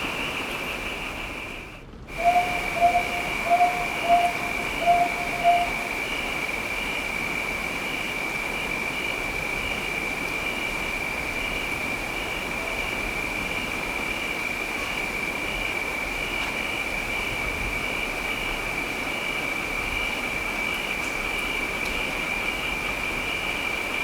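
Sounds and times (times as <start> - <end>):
night insects droning: 0.0 - 24.0
steady rain: 0.0 - 24.0.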